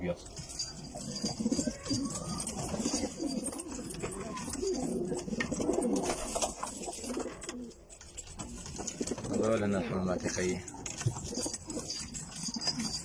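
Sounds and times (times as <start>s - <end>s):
pigeons cooing: 0.4s - 10.0s, 10.8s - 13.0s.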